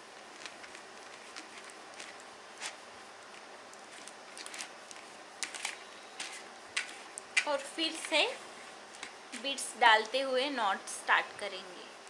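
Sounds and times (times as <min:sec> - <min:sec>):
cord and beads rustling: 0:00.0 - 0:09.8.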